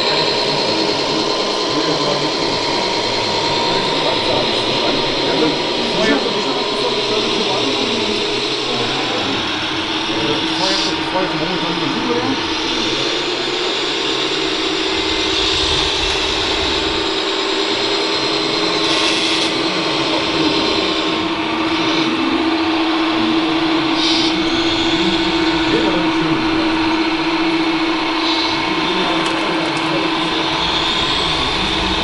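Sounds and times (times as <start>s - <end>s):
toy truck motor whine: 0.0s - 32.0s.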